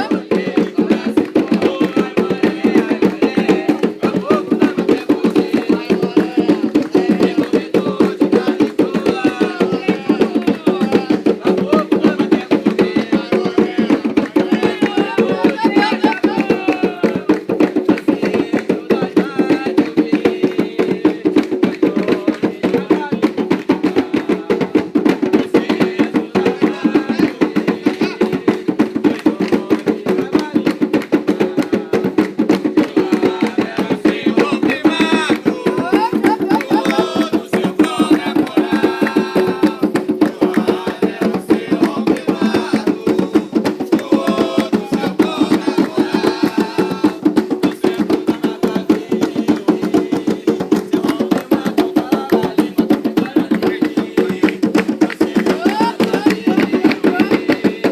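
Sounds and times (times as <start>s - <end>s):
hand drums beating fast rhythm: 0.0s - 57.9s
voices singing: 0.0s - 57.9s.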